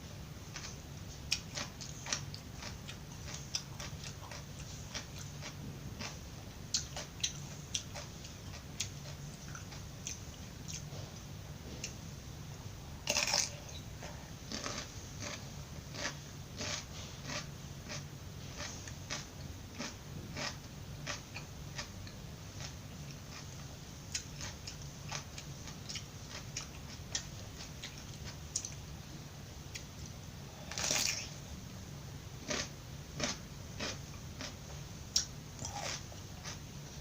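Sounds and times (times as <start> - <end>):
chewing crunchy raw vegetables: 0.5 - 12.0, 13.0 - 28.8, 30.5 - 31.4, 32.4 - 37.0.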